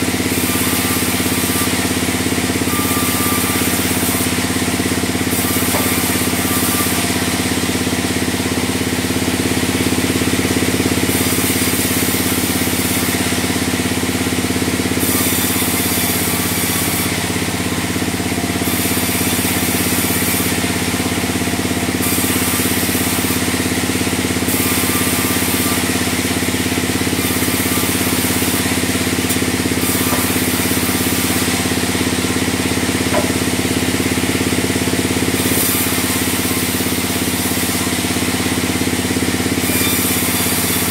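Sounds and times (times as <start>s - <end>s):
saw blade hissing through timber: 0.0s - 9.4s, 11.0s - 40.9s
sawmill machine hum: 0.0s - 40.9s.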